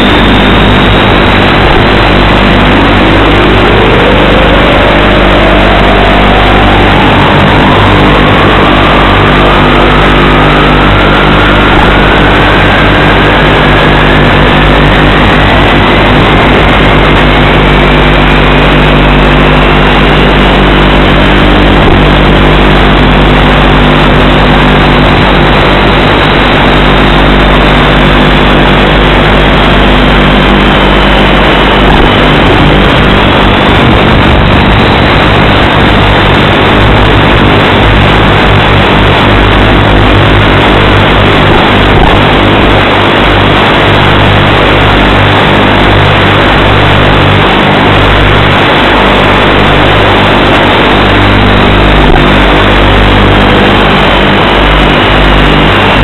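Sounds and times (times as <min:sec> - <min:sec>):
rushing wind noise: 0:00.0 - 0:56.0
thin motor whine: 0:00.0 - 0:56.0.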